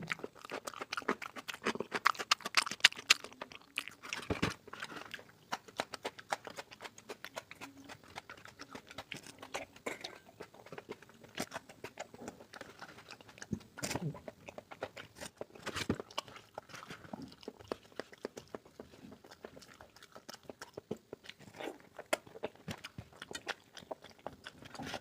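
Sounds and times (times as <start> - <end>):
person chewing and lip-smacking: 0.0 - 25.0.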